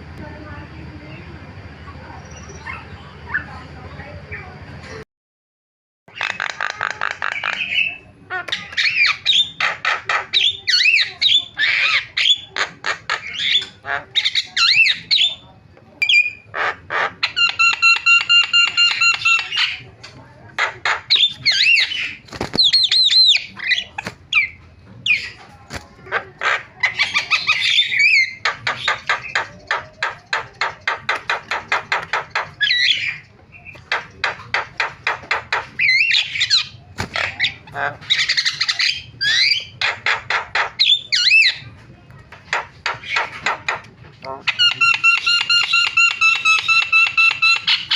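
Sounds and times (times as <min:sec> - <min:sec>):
bird chattering and squawking: 0:06.1 - 0:47.9.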